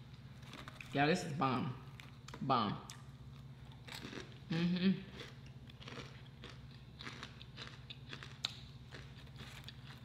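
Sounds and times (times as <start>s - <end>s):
person chewing crispy food: 0.0s - 1.0s, 1.8s - 10.0s.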